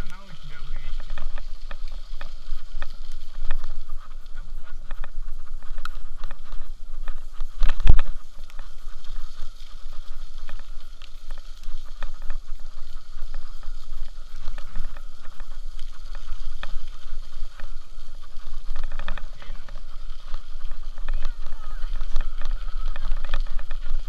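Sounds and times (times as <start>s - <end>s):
faint clicks: 0.0s - 24.0s
wind rumble on microphone: 0.0s - 24.0s.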